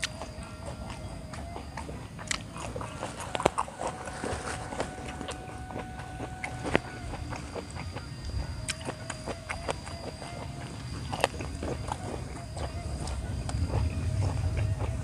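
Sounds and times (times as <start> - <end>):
crunching raw vegetables: 0.0 - 15.0.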